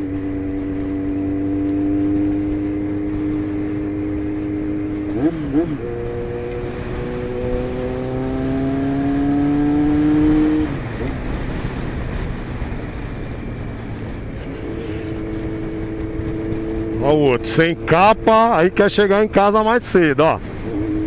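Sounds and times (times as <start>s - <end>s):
motorcycle engine revving: 0.0s - 21.0s
road noise: 0.0s - 21.0s
wind noise: 0.0s - 21.0s.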